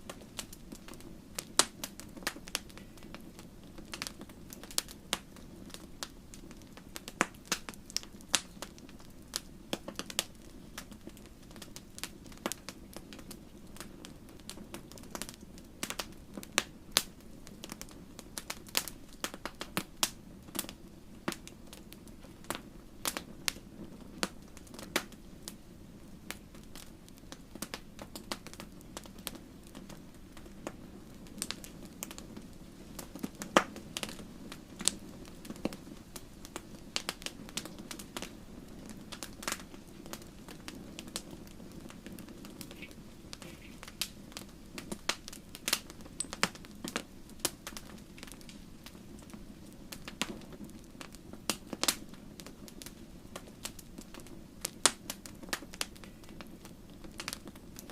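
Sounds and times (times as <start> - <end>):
fire crackling and popping: 0.0 - 57.9
low hum of flames: 0.0 - 57.9.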